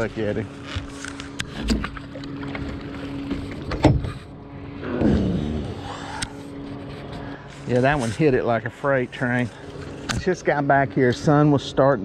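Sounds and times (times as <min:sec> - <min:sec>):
boat motor hum: 0:00.0 - 0:12.0.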